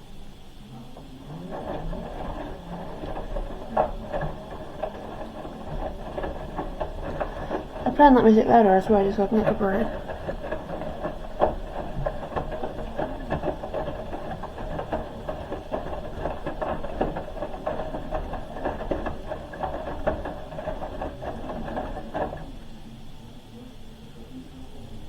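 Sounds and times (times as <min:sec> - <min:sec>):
washing machine motor whine: 0:00.0 - 0:25.0
load knocking in drum: 0:01.0 - 0:22.7.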